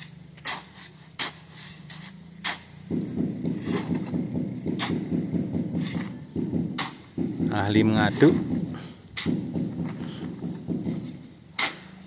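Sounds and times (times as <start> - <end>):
hoe chopping and scraping mortar: 0.0 - 12.0
low mechanical rumble: 0.0 - 12.0.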